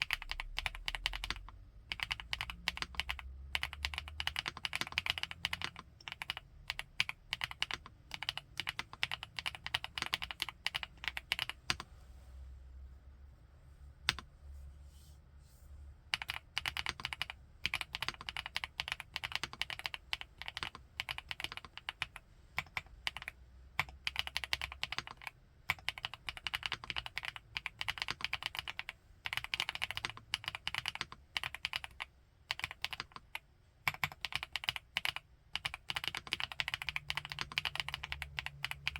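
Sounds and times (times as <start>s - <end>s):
fast mechanical keyboard typing: 0.0s - 11.8s, 16.1s - 38.9s.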